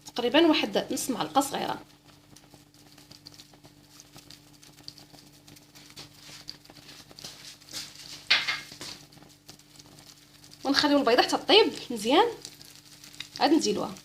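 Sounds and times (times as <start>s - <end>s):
egg frying in oil: 0.0s - 14.0s
sizzle burst: 0.0s - 14.0s.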